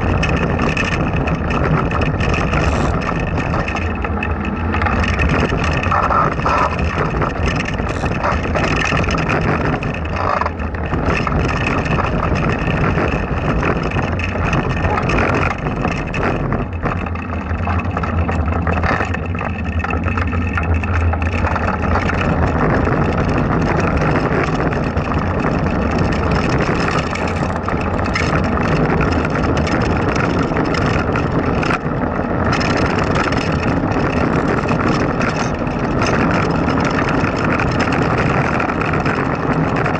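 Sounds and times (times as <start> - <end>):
wheels rumbling on rough asphalt: 0.0 - 39.9
wind buffeting microphone: 0.0 - 39.9.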